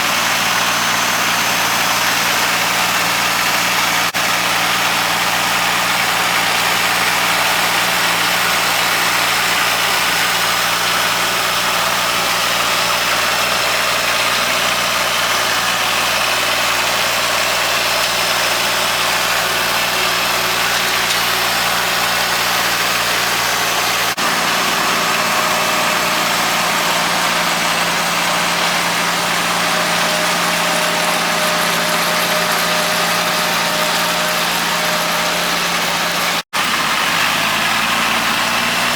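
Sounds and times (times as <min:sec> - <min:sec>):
baler baling hay: 0:00.0 - 0:37.0
tractor diesel engine running: 0:00.0 - 0:38.9.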